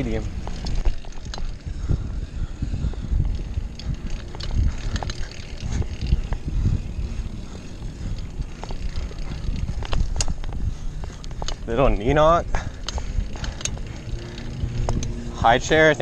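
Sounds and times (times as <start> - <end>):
bicycle tyre rumble: 0.0 - 16.0
light clicks from bike: 0.0 - 16.0
wind buffeting microphone: 0.0 - 16.0.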